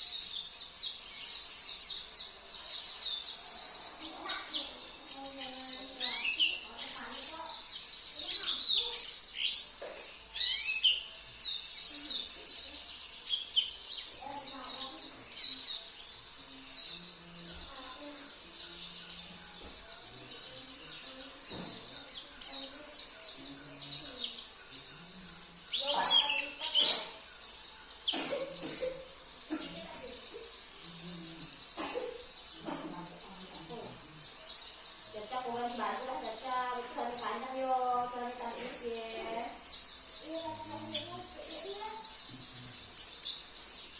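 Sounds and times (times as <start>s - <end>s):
songbird warbling: 0.0s - 43.6s.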